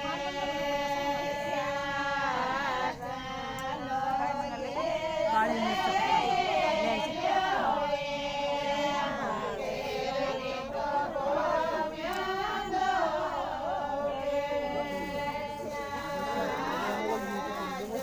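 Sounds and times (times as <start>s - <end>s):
voices singing folk chorus: 0.0s - 18.0s.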